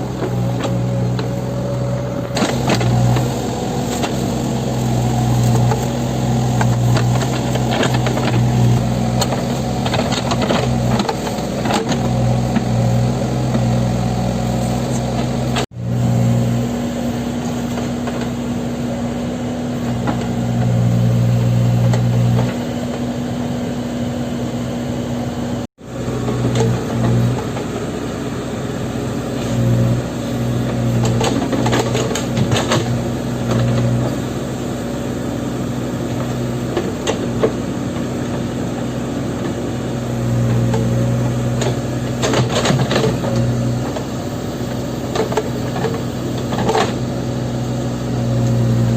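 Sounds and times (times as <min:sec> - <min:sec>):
diesel engine under load: 0:00.0 - 0:48.9.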